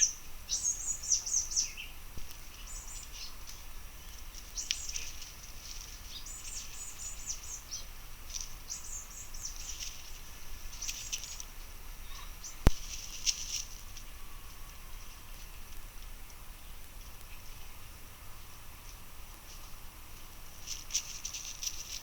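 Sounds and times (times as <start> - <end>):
small birds twittering: 0.0 - 19.7.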